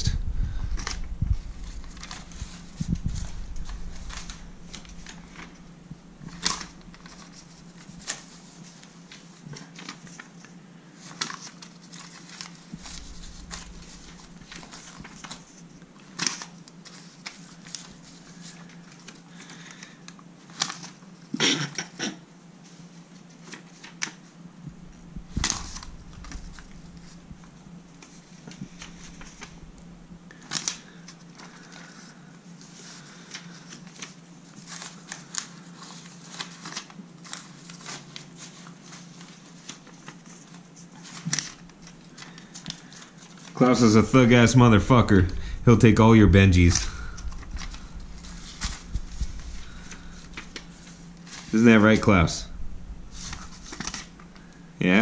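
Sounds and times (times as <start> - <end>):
faint steady hum: 0.0 - 55.0
paper crinkling and rustling: 0.7 - 21.3, 22.6 - 52.3, 53.0 - 55.0.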